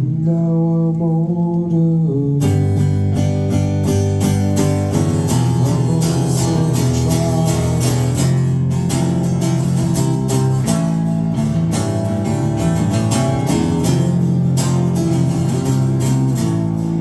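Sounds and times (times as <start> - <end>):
bass guitar: 0.0 - 17.0
strummed guitar: 0.0 - 17.0.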